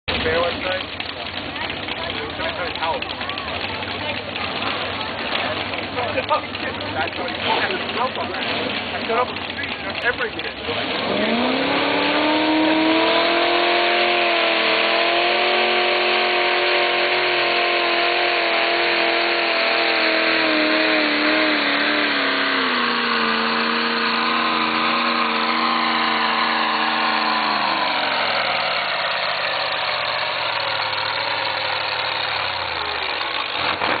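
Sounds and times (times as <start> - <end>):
pulling vehicle engine running hard: 0.1 - 34.0.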